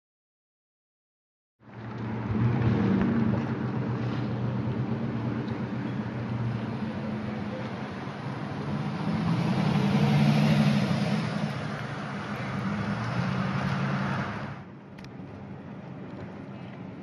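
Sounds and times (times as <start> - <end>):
diesel machinery engine drone: 1.6 - 16.4
broad rushing noise: 1.7 - 17.0.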